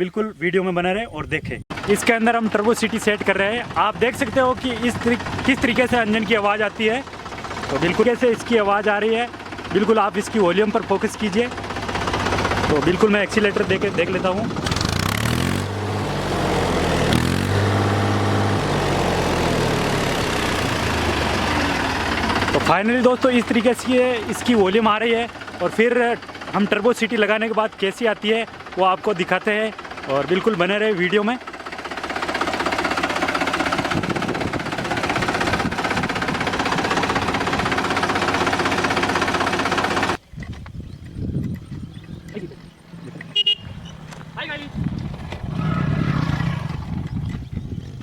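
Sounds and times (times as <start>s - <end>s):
tractor diesel engine revving: 1.7s - 40.2s, 42.7s - 47.5s.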